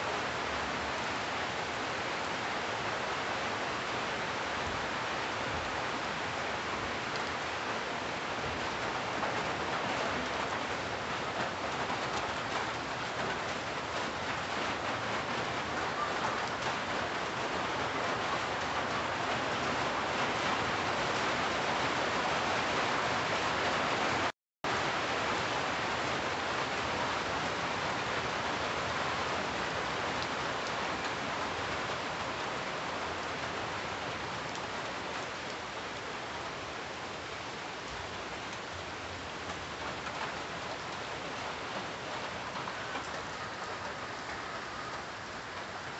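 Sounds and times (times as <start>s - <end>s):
rain on tree leaves: 0.0s - 45.9s.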